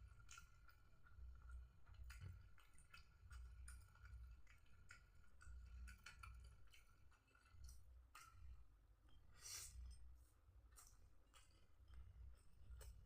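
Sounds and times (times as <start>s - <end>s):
chewing with lip clicks: 0.1s - 8.6s, 10.6s - 13.0s.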